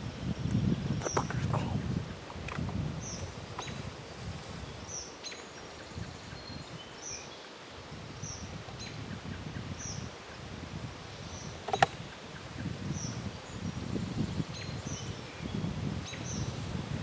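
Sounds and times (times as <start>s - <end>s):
low rustling noise: 0.0s - 17.0s
songbird chirping: 0.4s - 10.4s, 11.1s - 16.7s.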